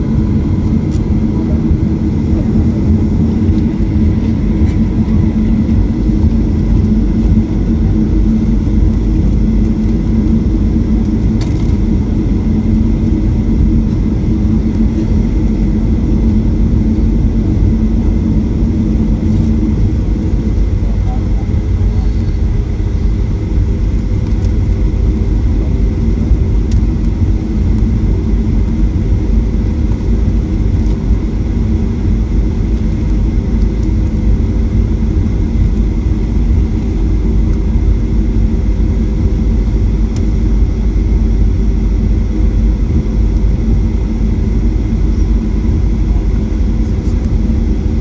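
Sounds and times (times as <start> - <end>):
deep engine rumble in aircraft cabin: 0.0 - 48.0
faint steady hums: 0.0 - 48.0.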